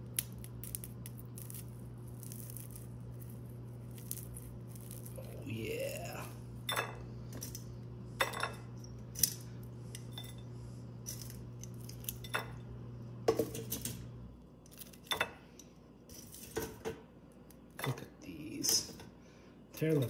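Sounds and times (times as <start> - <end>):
air fryer humming: 0.0 - 20.0.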